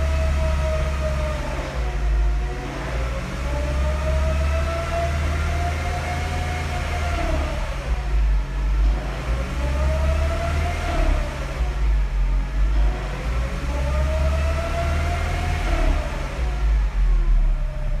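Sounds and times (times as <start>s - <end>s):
car engine running: 0.0s - 18.0s
engine whine rising and falling: 0.0s - 18.0s.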